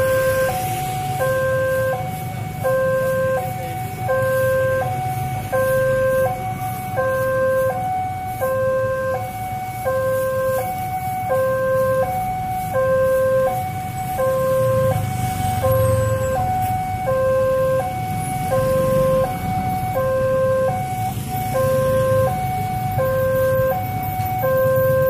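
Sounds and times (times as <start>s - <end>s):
level crossing two-tone alarm: 0.0s - 25.0s
motorcycle engines idling: 0.0s - 25.0s.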